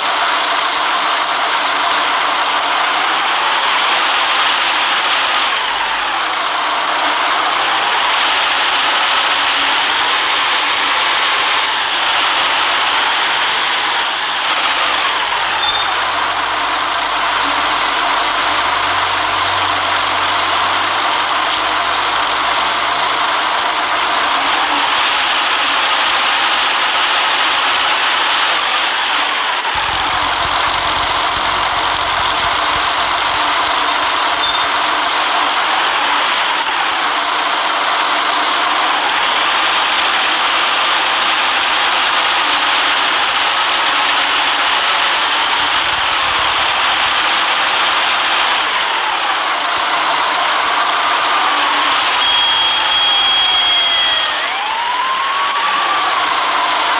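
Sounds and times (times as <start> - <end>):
bus engine humming: 0.0 - 56.9
road noise: 0.0 - 56.9.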